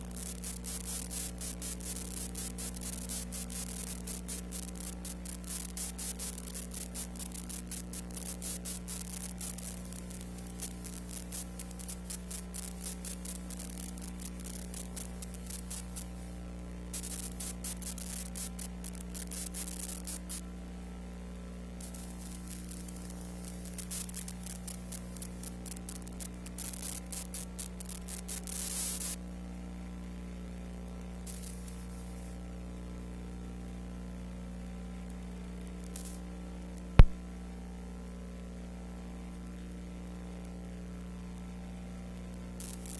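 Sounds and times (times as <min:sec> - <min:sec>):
film crackle and hiss: 0:00.0 - 0:29.3, 0:30.8 - 0:37.3, 0:38.6 - 0:42.9
mains hum: 0:00.0 - 0:42.9.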